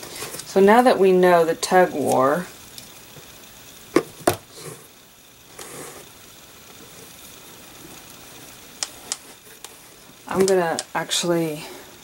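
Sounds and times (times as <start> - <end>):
low hiss: 0.0 - 12.0.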